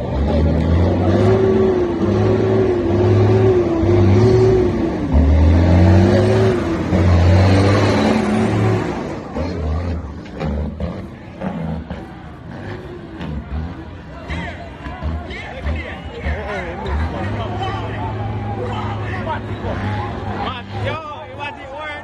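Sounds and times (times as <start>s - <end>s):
truck diesel engine revving: 0.0s - 21.4s.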